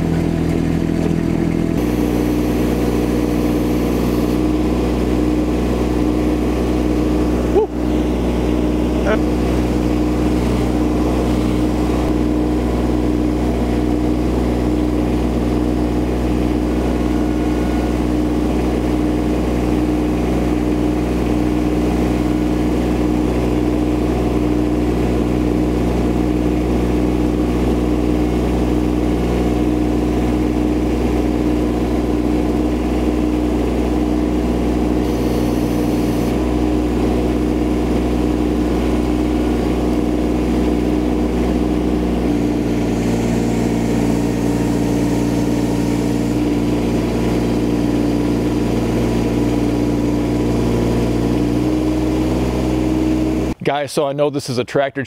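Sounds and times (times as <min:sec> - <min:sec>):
skid steer engine running: 0:00.0 - 0:53.6.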